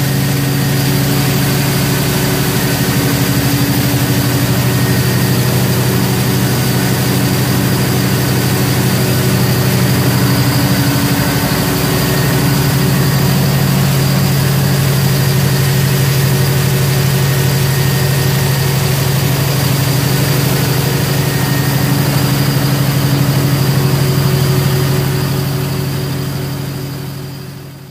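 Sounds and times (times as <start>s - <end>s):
diesel engine droning: 0.0s - 27.9s.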